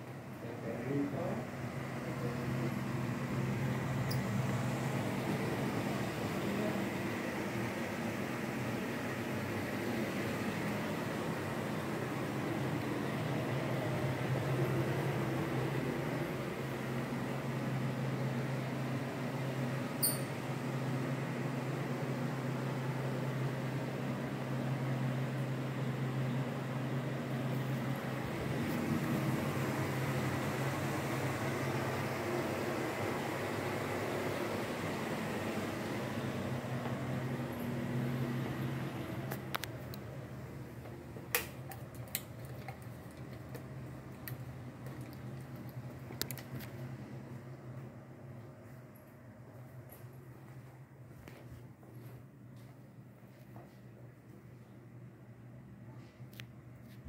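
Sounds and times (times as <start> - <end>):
fan humming and blowing air: 0.0 - 57.0.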